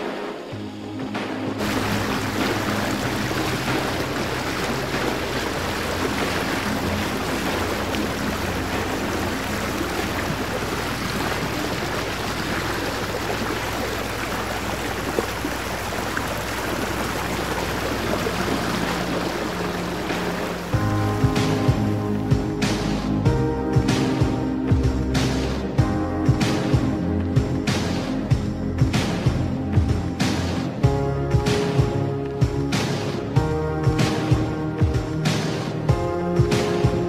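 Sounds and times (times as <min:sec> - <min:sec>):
faint background music: 0:00.0 - 0:37.0
running water rushing: 0:00.0 - 0:37.0.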